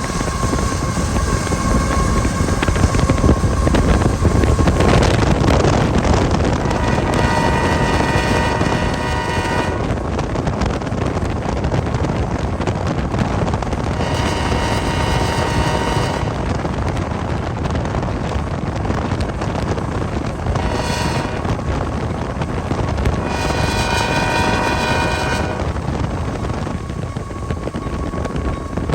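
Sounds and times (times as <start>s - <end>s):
locomotive horn blasts: 0.0s - 10.2s, 13.4s - 17.0s, 19.4s - 28.9s
steady low rumble: 0.0s - 28.9s
wind noise on microphone: 0.0s - 28.9s.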